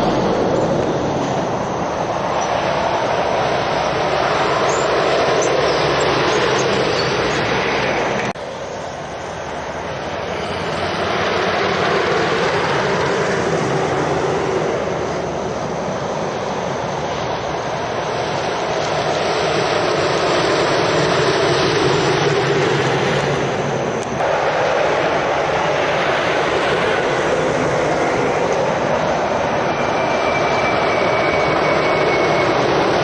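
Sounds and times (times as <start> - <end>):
lorries passing on a road: 0.0 - 33.0.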